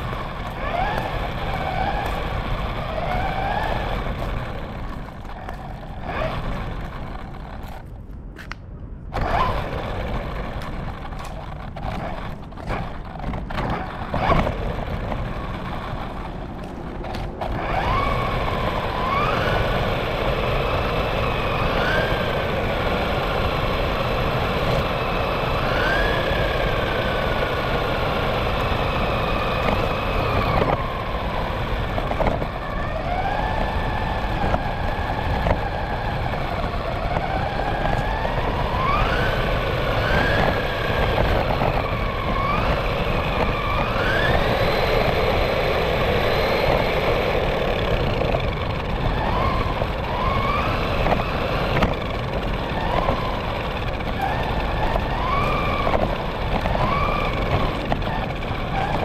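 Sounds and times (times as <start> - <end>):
rc car motor whining: 0.0 - 7.9, 9.1 - 59.0
wheels rolling on pavement: 0.0 - 59.0.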